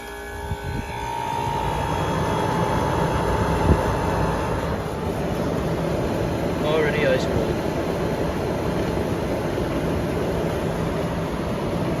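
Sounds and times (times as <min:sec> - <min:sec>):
air conditioner rushing and humming: 0:00.0 - 0:12.0.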